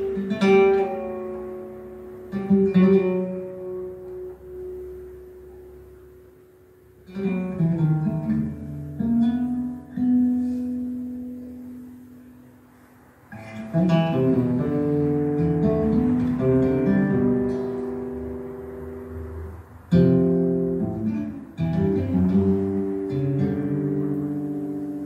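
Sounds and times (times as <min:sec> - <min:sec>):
acoustic guitar plucked notes: 0:00.0 - 0:25.0.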